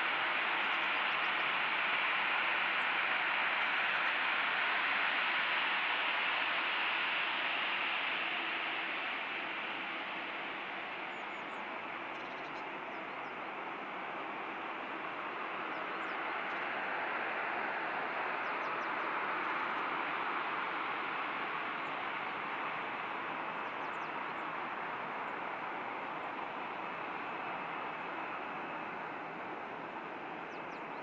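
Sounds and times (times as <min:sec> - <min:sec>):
jet engines taxiing: 0:00.0 - 0:31.0.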